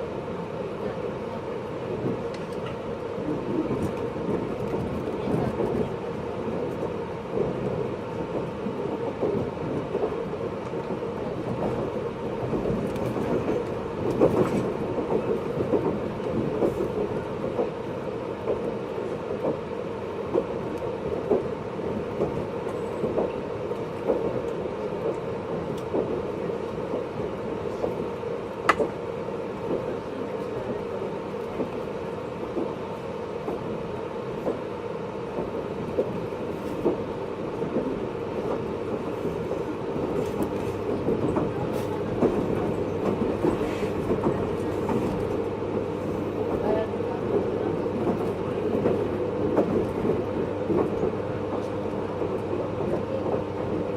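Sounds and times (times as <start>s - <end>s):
train rail rumble: 0.0s - 53.9s.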